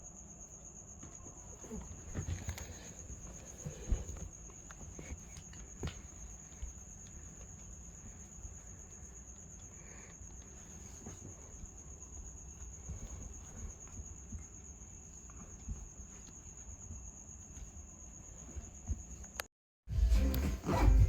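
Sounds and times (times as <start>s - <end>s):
cricket trill: 0.0s - 19.5s.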